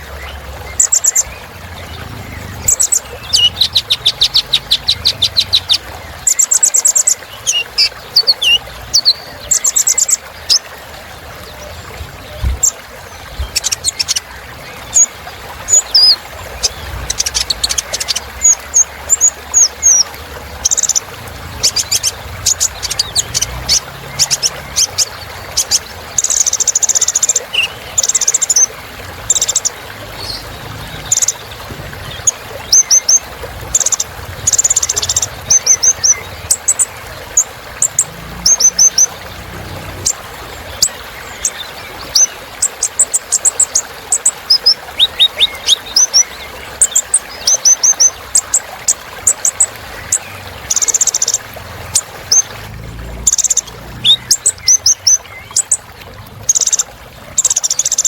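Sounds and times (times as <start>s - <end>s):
sunbird chirps and trills: 0.0s - 10.7s, 11.4s - 28.7s, 29.3s - 48.6s, 52.0s - 55.8s.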